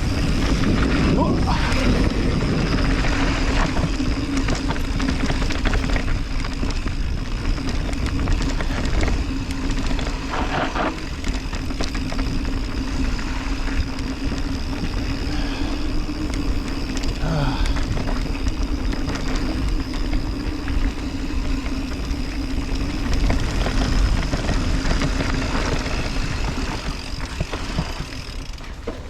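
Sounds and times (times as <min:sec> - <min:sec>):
wind buffeting microphone: 0:00.0 - 0:28.8
bike rattling and clicking: 0:00.0 - 0:29.0
tyres on dirt: 0:00.0 - 0:29.0.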